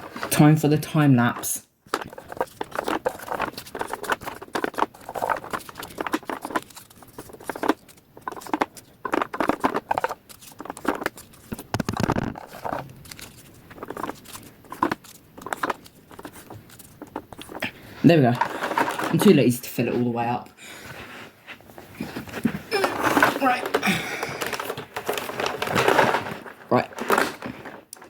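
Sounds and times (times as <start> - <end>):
plastic clicks and rustles: 0.0 - 19.9, 21.7 - 28.0.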